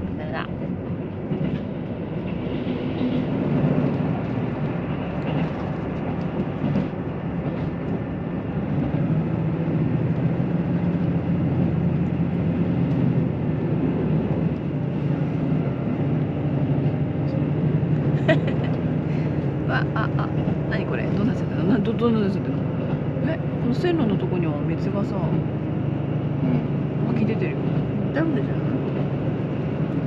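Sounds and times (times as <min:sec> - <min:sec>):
train engine drone: 0:00.0 - 0:30.0
wheels rumbling on rail: 0:00.0 - 0:30.0.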